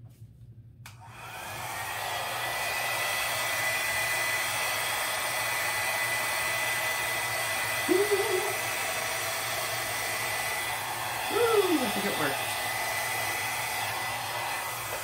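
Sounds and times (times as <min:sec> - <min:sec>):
hair dryer blowing air: 0:00.9 - 0:15.0.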